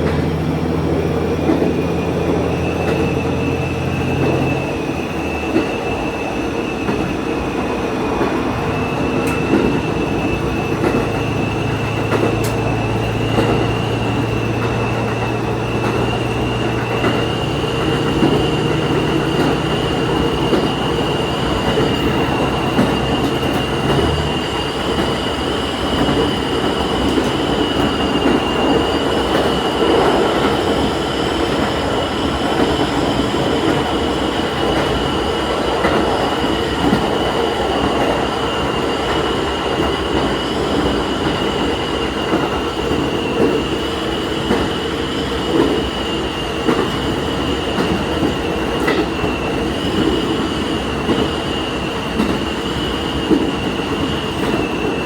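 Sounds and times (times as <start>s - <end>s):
railcar engine and wheels rumbling: 0.0s - 55.0s.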